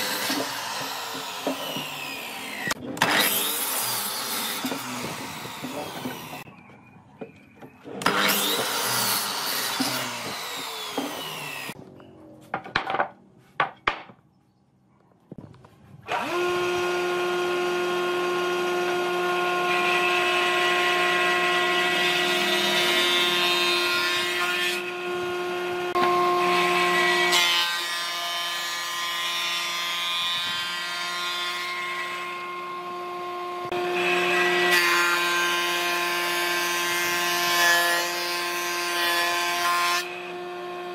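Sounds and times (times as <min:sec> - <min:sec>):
miter saw cutting wood: 0:00.0 - 0:06.5, 0:08.0 - 0:11.8, 0:16.0 - 0:40.9.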